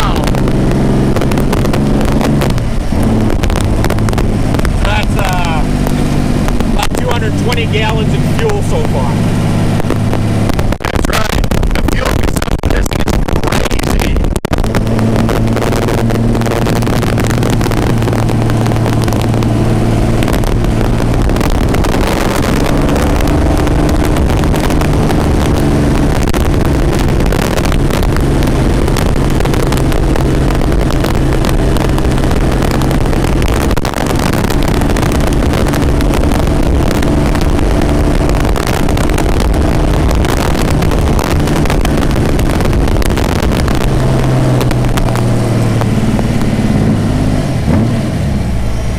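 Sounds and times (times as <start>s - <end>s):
racing car engine running loud: 0.0s - 48.9s
road and wind noise: 0.0s - 48.9s.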